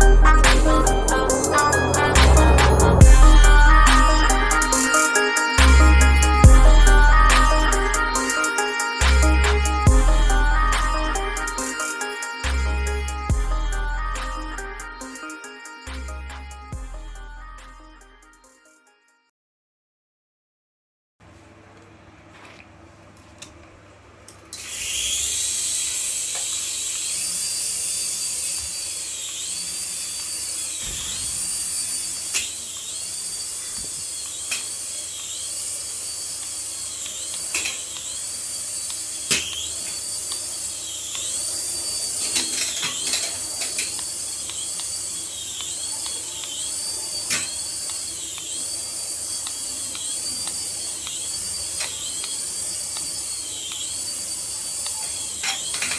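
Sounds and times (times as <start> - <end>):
remote-control toy whirring: 0.0 - 16.1, 24.5 - 55.9.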